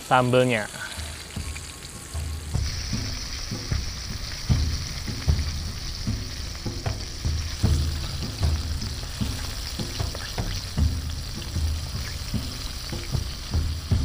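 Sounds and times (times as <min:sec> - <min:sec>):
meat sizzling in hot oil: 0:00.0 - 0:14.0
low thumps and knocks: 0:01.2 - 0:14.0.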